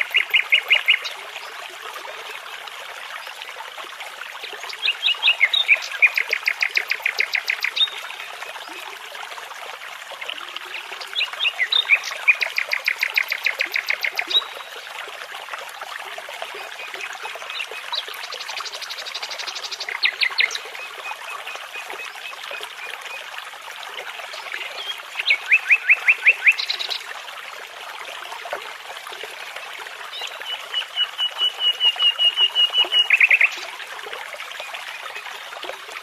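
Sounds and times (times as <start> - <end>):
babbling brook: 0.0 - 36.0.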